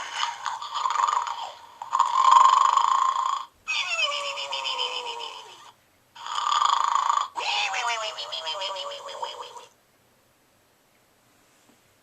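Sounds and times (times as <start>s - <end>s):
toy snoring sound: 0.0s - 9.7s.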